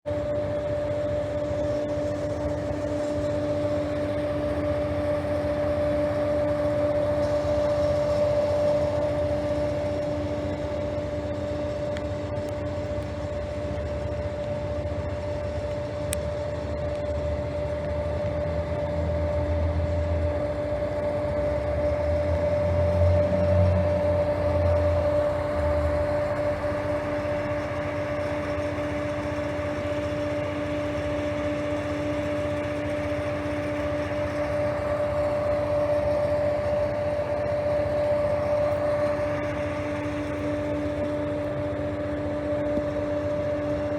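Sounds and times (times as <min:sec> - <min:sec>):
idling diesel engine drone: 0:00.1 - 0:43.9.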